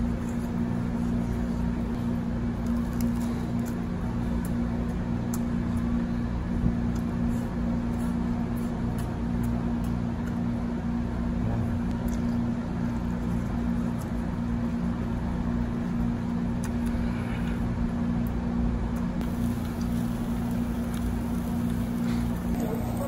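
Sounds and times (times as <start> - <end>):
low mechanical hum with rumble: 0.0 - 23.0.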